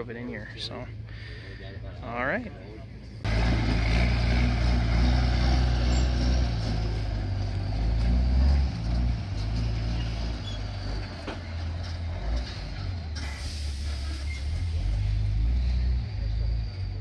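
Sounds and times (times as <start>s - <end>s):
truck engine rumbling past: 2.8s - 17.0s.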